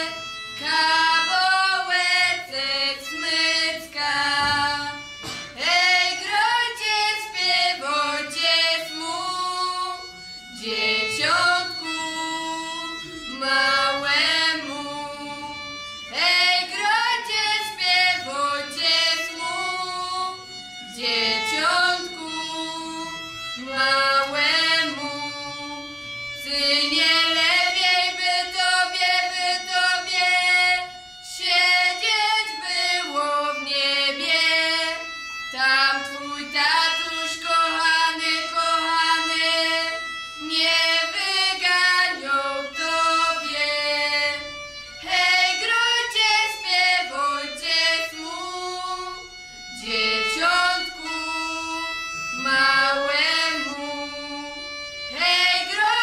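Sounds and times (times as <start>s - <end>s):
violin: 0.0s - 56.0s
young female voices singing carol: 0.0s - 56.0s.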